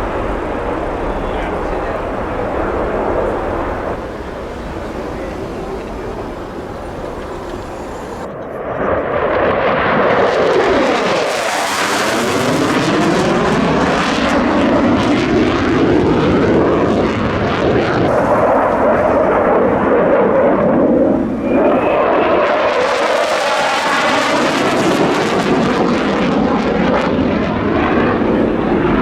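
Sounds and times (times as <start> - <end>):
jet passing low: 0.0 - 29.0.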